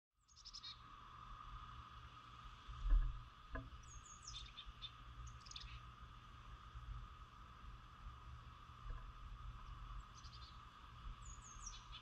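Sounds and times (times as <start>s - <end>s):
songbirds chirping: 0.2s - 1.0s, 3.0s - 12.0s.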